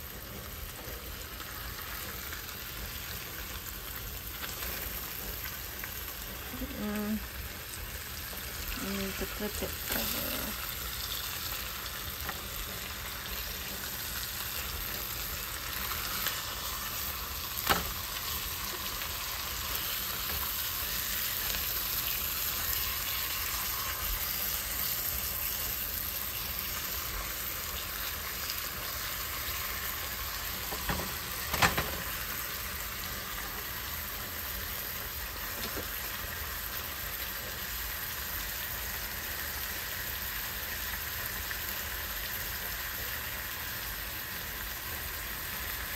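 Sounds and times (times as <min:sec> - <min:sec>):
fish sizzling in a pan: 0:00.0 - 0:45.9.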